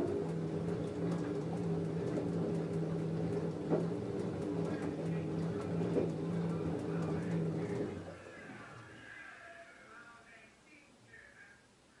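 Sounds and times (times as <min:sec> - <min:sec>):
washing machine motor hum: 0:00.0 - 0:10.0.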